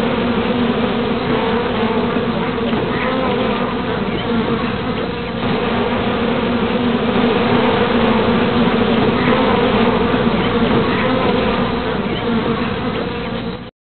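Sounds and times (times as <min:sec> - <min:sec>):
bees buzzing: 0:00.0 - 0:13.6.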